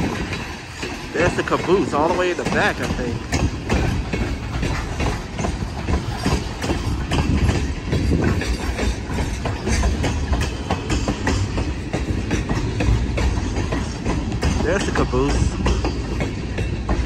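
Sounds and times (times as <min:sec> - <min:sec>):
train low rumble: 0:00.0 - 0:17.0
train wheels clicking over rail joints: 0:00.0 - 0:17.0.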